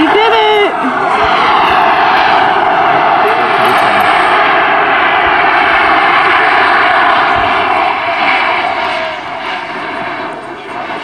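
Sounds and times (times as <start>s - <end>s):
model jet turbine roaring: 0.0s - 11.0s.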